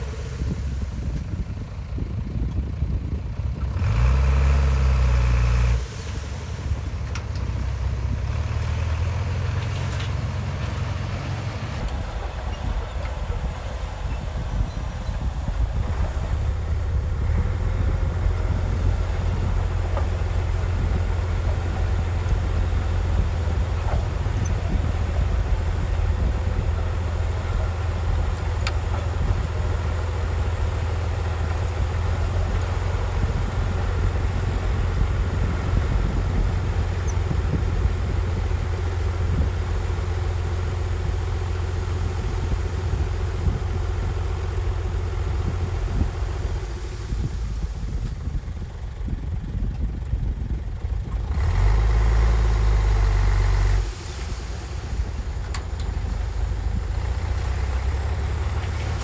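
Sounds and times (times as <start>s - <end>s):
diesel machinery engine droning: 0.0s - 59.0s.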